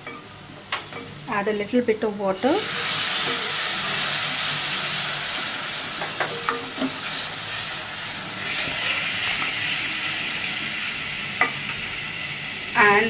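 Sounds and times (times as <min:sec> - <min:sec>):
masala sizzling in a pan: 0:00.0 - 0:13.0.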